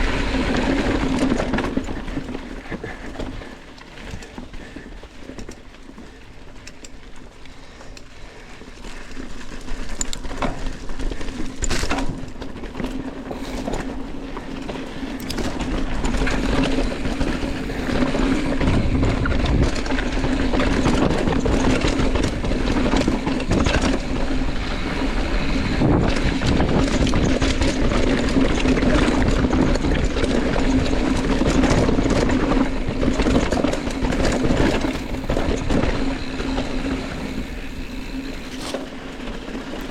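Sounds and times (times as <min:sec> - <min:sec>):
bike rattling on dirt trail: 0:00.0 - 0:39.9.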